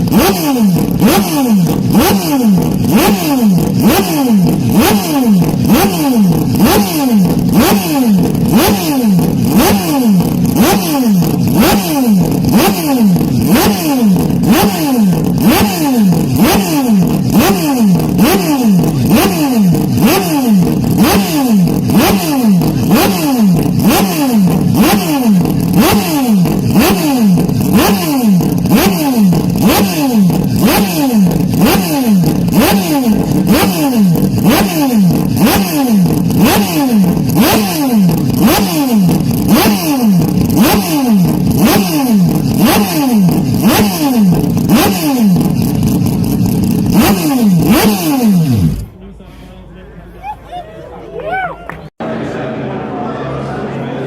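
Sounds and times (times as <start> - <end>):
motocross engines revving: 0.0 - 50.0.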